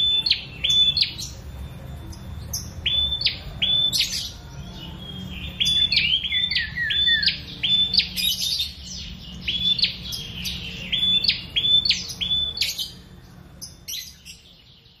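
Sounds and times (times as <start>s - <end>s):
warbler calling sharp notes: 0.0s - 15.0s.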